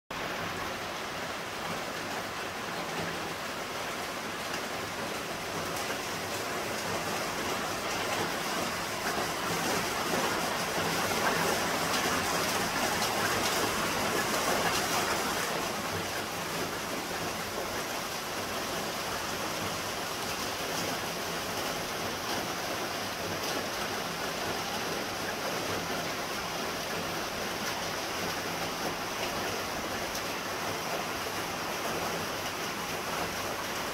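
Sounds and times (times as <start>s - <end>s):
rain on leaves and paving: 0.1s - 33.9s.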